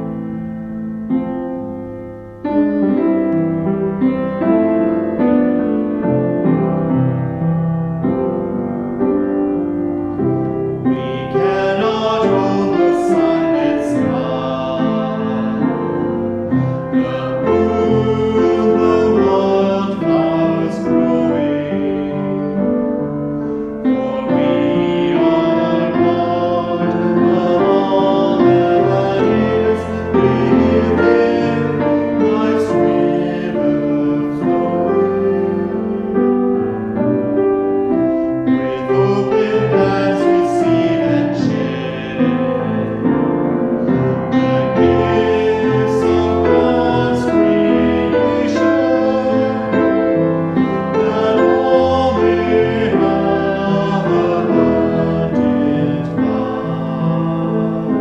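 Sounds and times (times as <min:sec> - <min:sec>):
person singing a hymn: 0:00.0 - 0:58.0
piano playing: 0:00.0 - 0:58.0.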